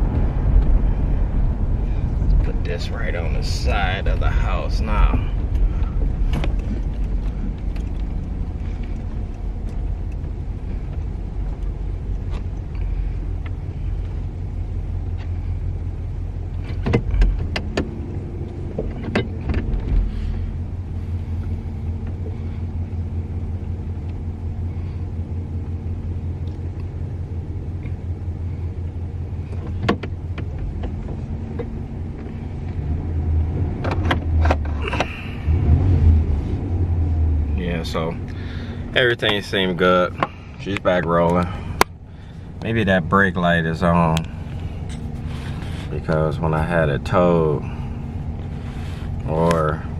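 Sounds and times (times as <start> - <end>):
car engine low rumble: 0.0 - 49.9.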